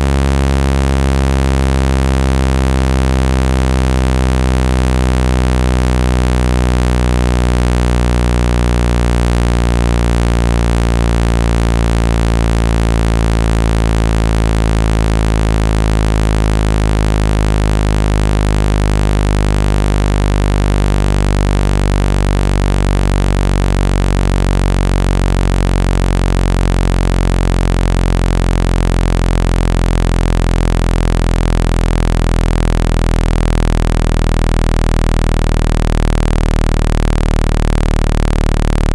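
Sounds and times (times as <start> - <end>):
synthetic low buzzing tone: 0.0 - 38.9.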